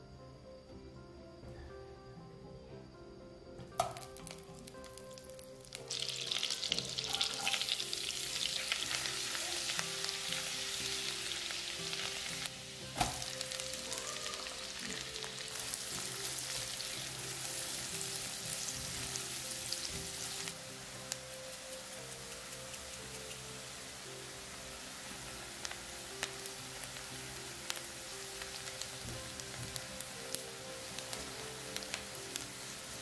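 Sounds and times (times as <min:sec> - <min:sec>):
butter and oil sizzling in a pan: 0:03.8 - 0:33.0.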